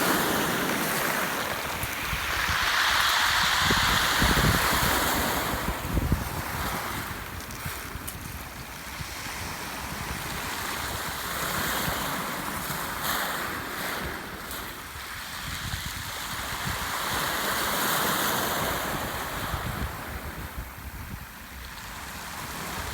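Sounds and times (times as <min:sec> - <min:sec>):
waves washing onto shore: 0:00.0 - 0:22.9
wind on microphone: 0:00.0 - 0:22.9.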